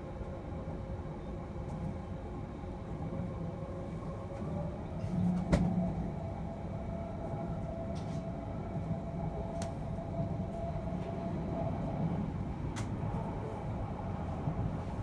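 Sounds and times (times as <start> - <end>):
train running gear rumble: 0.0 - 15.0.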